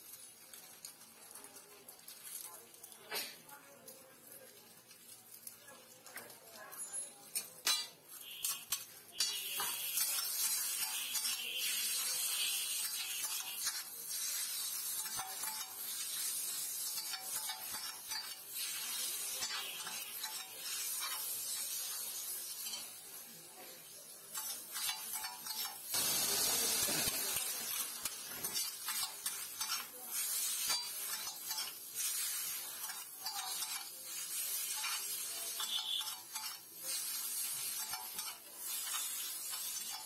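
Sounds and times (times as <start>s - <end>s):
frying sizzle: 0.0s - 40.0s
metal spatulas scraping griddle: 6.8s - 23.2s, 24.3s - 40.0s.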